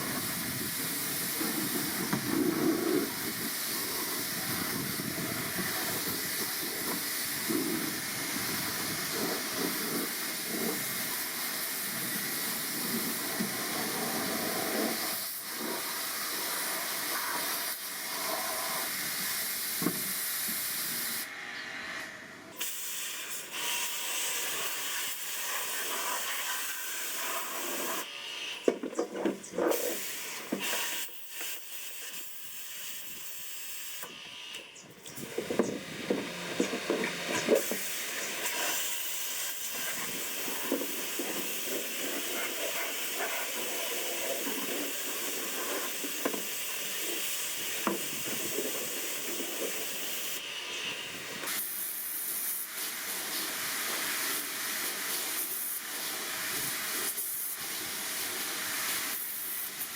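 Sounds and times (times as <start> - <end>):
spray hissing: 0.0 - 21.3, 22.6 - 34.2, 35.0 - 59.9.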